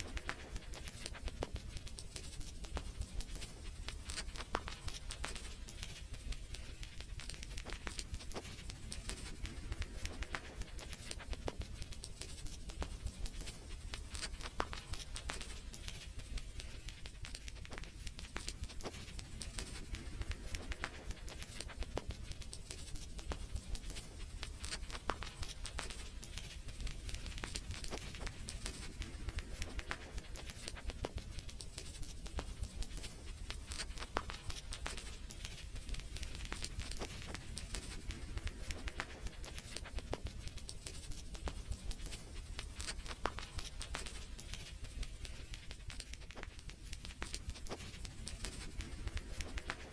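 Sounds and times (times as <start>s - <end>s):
fire pops and snaps: 0.0s - 49.9s
low rumble of burning: 0.0s - 49.9s
wood fire crackling: 0.0s - 49.9s.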